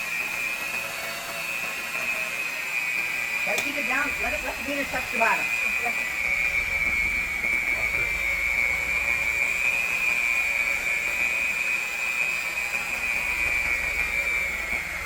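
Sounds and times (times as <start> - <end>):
electric hand mixer whine: 0.0 - 15.0.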